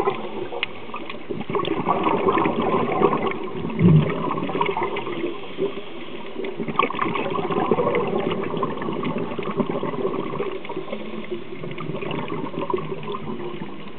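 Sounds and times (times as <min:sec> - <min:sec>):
underwater rushing hiss with crackling: 0:00.0 - 0:13.9.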